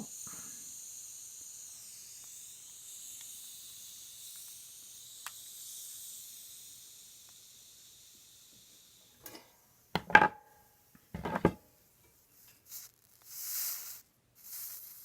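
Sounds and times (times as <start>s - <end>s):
torch flame hissing: 0.0s - 10.2s, 12.6s - 15.0s.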